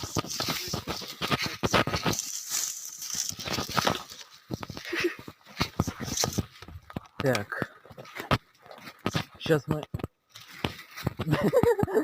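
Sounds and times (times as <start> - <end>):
firewood dragged through undergrowth: 0.0 - 9.6, 10.3 - 11.6
twigs crunching and crackling: 0.0 - 11.8.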